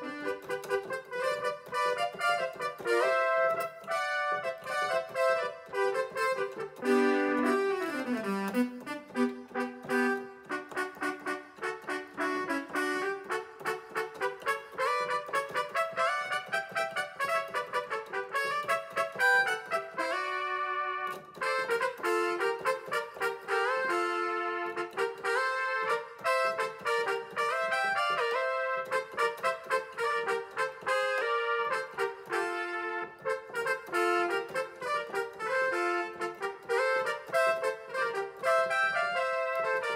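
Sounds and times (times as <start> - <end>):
synthesizer brass notes: 0.0 - 39.9.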